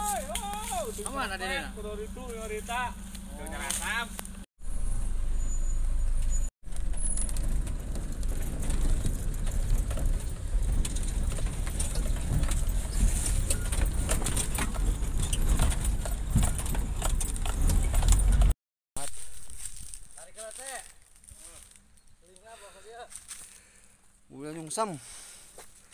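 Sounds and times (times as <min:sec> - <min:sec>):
vehicle engine rumbling: 0:00.0 - 0:22.2.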